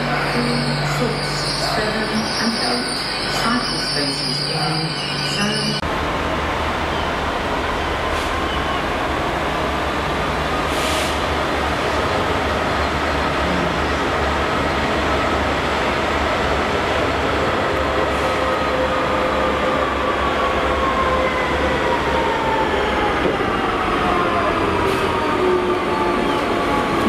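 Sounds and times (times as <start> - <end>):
diesel locomotive engine: 0.0 - 27.0
wheels rumbling on rail: 0.0 - 27.0.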